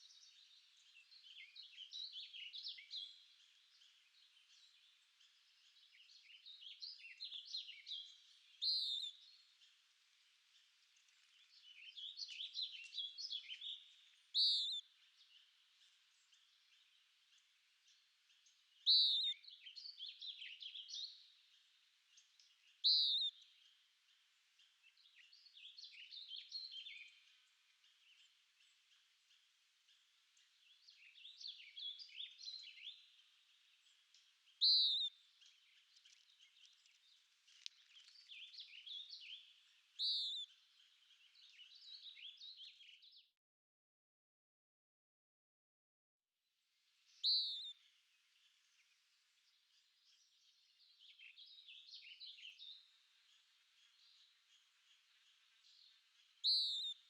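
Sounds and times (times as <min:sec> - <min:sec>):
songbirds singing: 0:00.0 - 0:43.3, 0:46.9 - 0:57.0.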